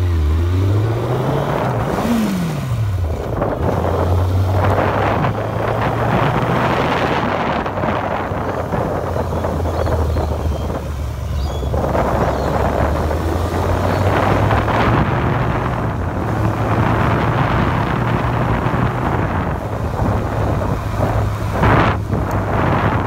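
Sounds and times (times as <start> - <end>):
vehicle low hum: 0.0 - 23.0
wind buffeting microphone: 0.1 - 23.0.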